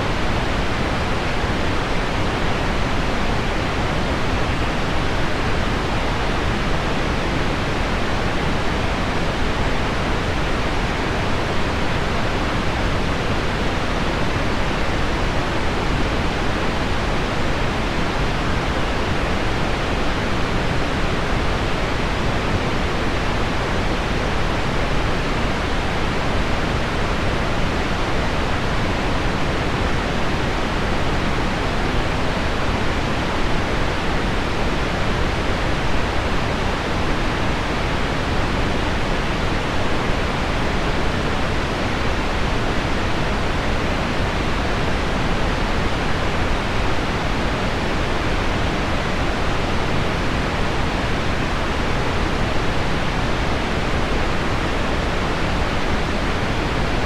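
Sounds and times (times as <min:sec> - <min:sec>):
pink noise: 0:00.0 - 0:57.0.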